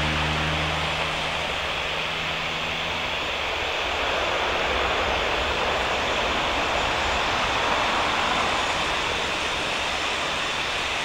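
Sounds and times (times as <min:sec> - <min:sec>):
distant jet engines rushing: 0:00.0 - 0:11.0.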